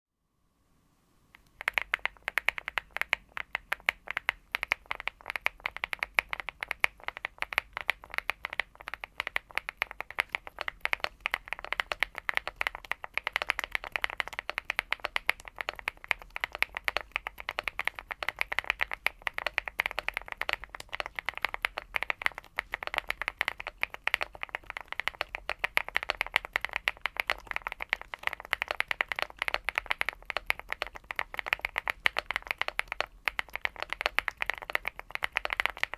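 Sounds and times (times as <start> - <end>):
fast typing on mechanical keyboard: 1.5 - 35.9.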